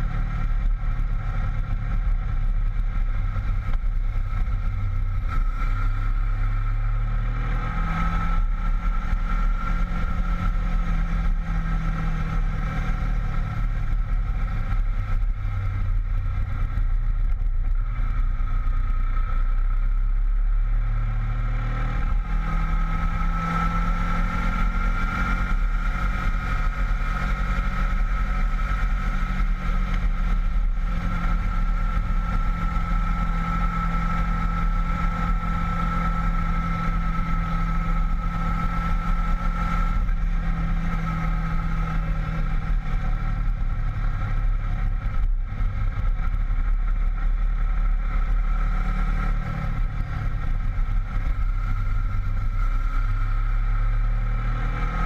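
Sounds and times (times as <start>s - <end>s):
motorcycle engine running: 0.0s - 55.0s
wind rush of riding: 0.0s - 55.0s.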